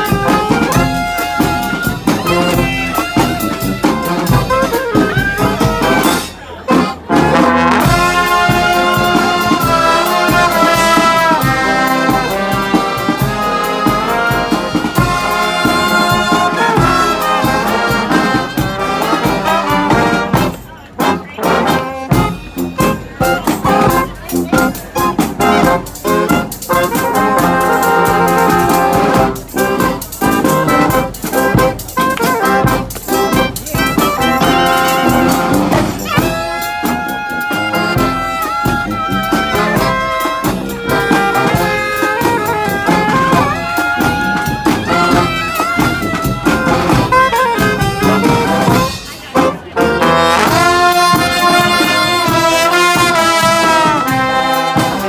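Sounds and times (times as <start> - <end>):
brass horns playing: 0.0 - 55.0
steady drumbeat: 0.0 - 55.0.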